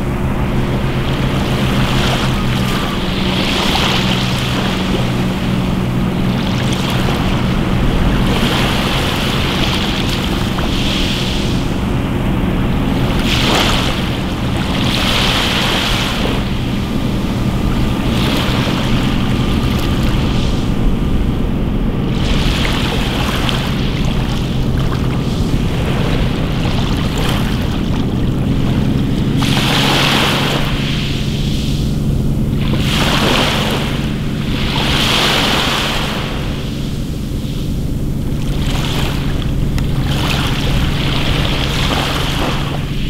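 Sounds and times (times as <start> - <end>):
steady low drone: 0.0 - 43.0
waves washing over pebbles: 0.0 - 43.0.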